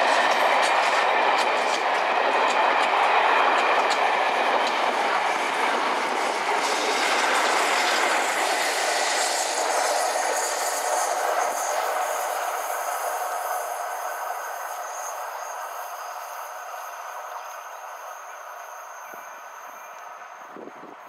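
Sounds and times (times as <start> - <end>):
diesel train engine and wheels: 0.0 - 21.0.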